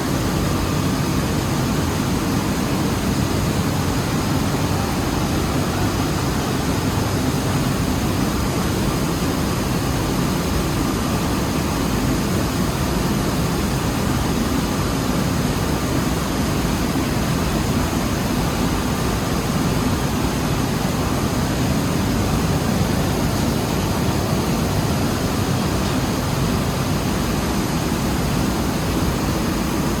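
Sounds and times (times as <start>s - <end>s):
rice mill machinery drone: 0.0s - 30.0s.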